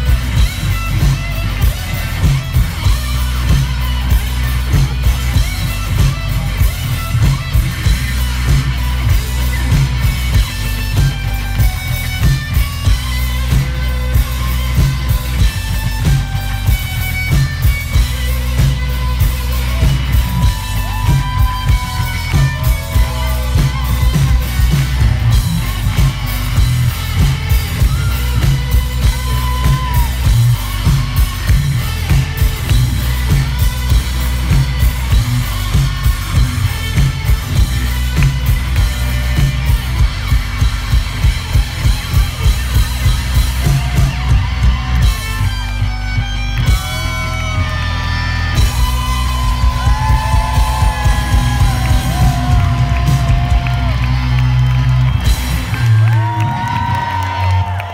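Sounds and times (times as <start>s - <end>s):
drum kit steady beat: 0.0s - 57.9s
electric guitar: 0.0s - 57.9s.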